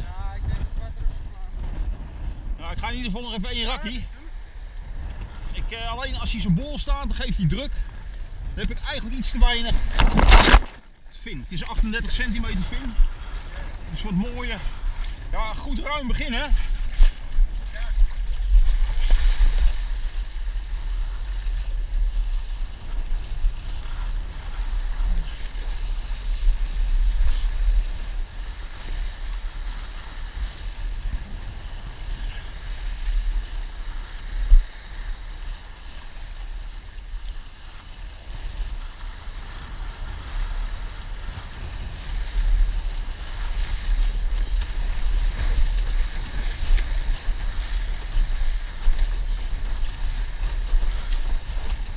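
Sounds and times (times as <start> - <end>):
wind buffeting microphone: 0.0 - 51.9
water rushing under board: 5.6 - 51.9.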